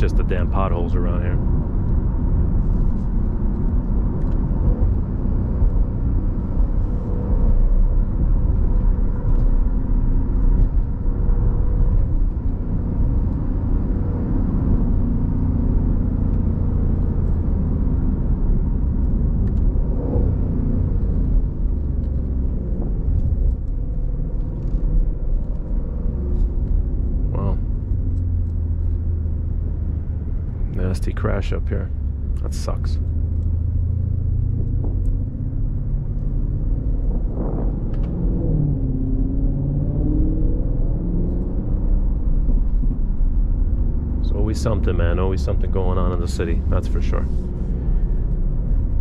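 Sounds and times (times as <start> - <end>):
car cabin road rumble: 0.0 - 49.0.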